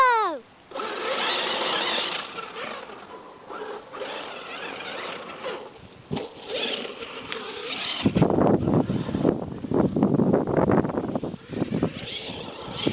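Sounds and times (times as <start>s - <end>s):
electric rc car motor whine: 0.7s - 12.9s.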